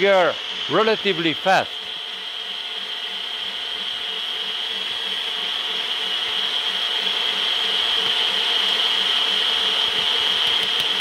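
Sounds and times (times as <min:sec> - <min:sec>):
stand mixer whisk whining: 0:00.0 - 0:11.0.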